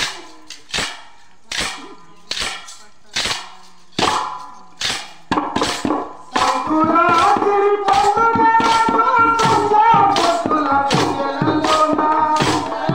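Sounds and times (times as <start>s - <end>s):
wooden clappers clacking: 0.0s - 12.9s.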